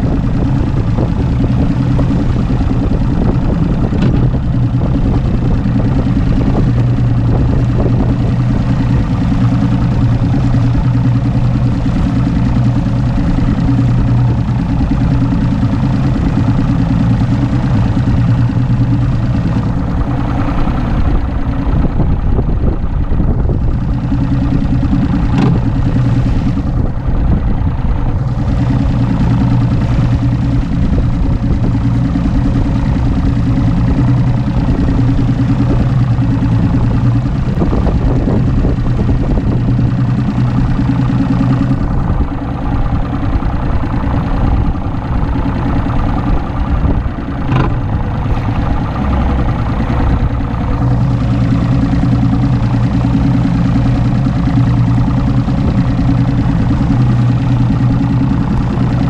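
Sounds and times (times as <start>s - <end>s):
hull knocking on waves: 0.0s - 59.0s
outboard motor running: 0.0s - 59.0s
wind and water rushing: 0.0s - 59.0s.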